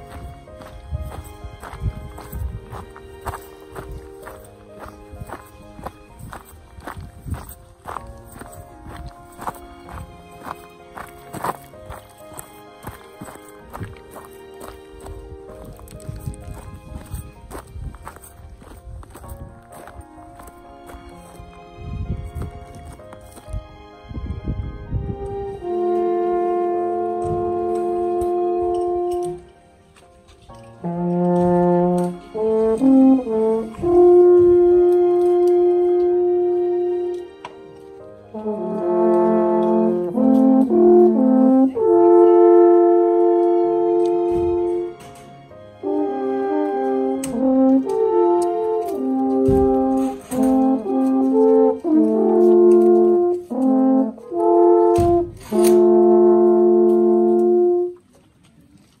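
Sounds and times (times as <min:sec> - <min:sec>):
alphorns playing in harmony: 0:00.0 - 0:58.1.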